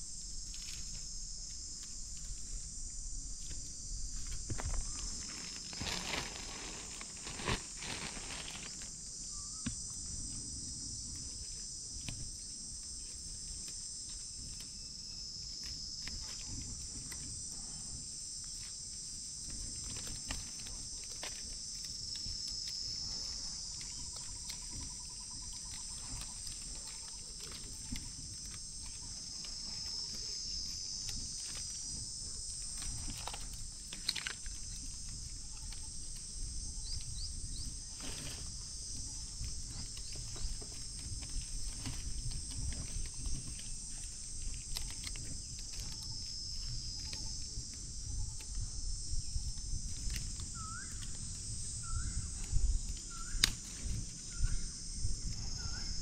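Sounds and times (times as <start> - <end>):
clicks and crackles in dry brush: 0.0 - 56.0
high-pitched insect chorus: 0.0 - 56.0.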